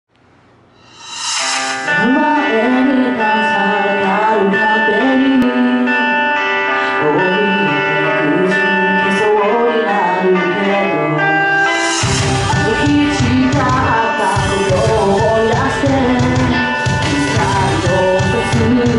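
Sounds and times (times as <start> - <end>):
sustained instrumental chords: 0.8 - 18.9
woman singing into a microphone: 1.9 - 11.6, 12.5 - 18.9.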